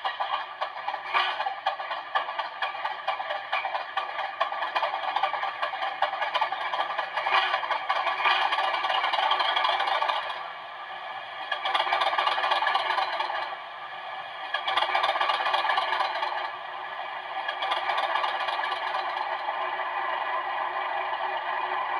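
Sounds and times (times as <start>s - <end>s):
diesel engine rattling from small speaker: 0.0s - 21.9s.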